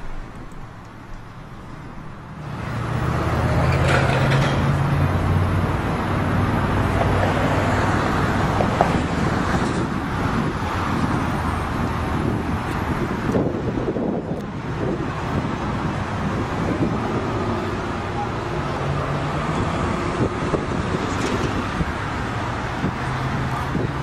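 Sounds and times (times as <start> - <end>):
traffic noise: 0.0 - 24.0.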